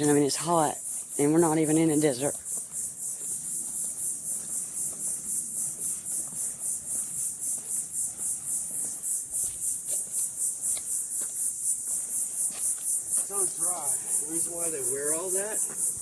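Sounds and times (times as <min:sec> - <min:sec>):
insects chirping in pulses: 0:00.0 - 0:16.0.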